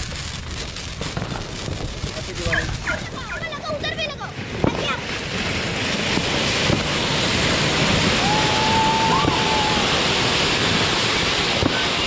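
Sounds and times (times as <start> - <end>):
fireworks spraying sparks hiss: 0.0 - 12.0.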